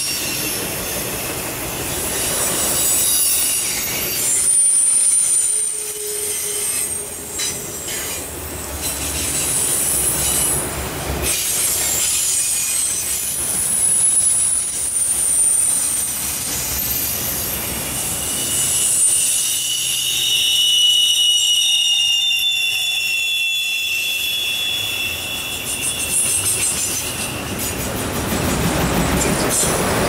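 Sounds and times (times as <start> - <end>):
freight train rumbling: 0.0 - 30.0
steel wheels squealing: 0.0 - 30.0.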